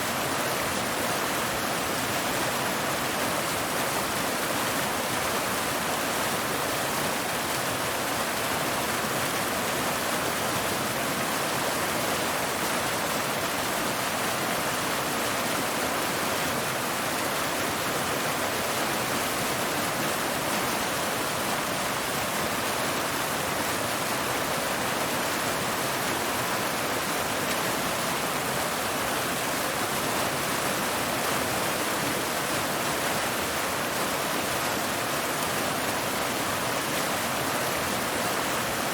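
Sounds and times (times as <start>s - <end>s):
waterfall pouring over rocks: 0.0s - 38.9s.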